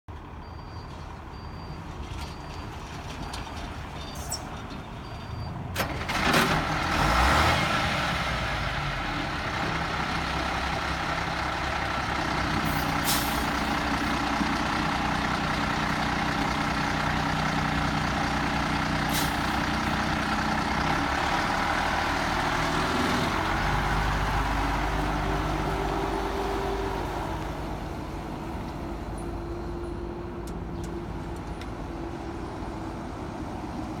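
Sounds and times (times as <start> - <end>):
diesel truck engine starting and running: 0.1 - 34.0.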